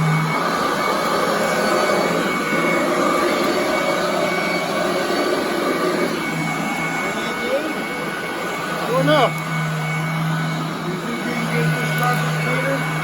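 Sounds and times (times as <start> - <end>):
vacuum cleaner running on carpet: 0.0 - 13.0.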